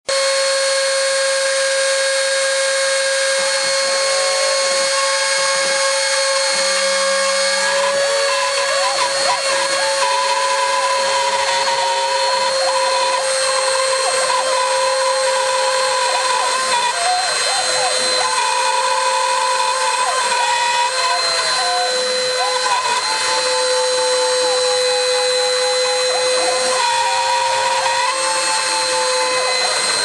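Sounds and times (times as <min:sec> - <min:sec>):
milling machine motor whine: 0:00.1 - 0:30.0
wavering tones: 0:03.0 - 0:30.0.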